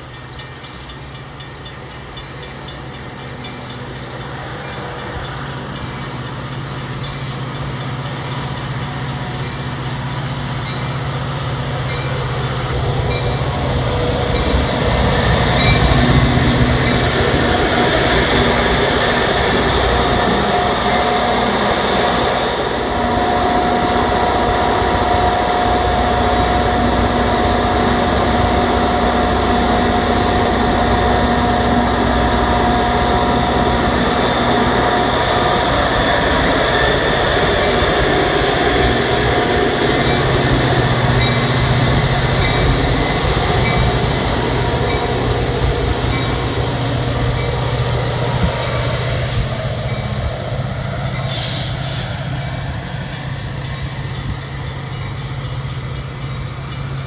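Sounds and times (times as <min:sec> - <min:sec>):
diesel train engine: 0:00.0 - 0:57.0
held whine: 0:03.1 - 0:57.0.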